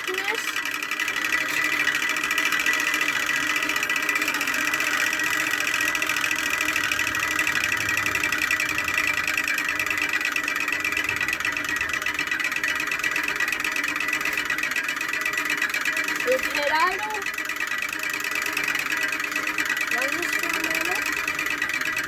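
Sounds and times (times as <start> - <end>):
bicycle drivetrain whirring and ticking: 0.0 - 22.0.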